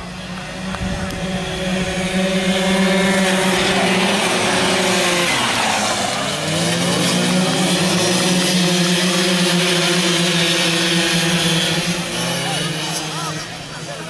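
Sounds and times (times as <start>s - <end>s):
scooter engines revving high: 0.0s - 14.0s.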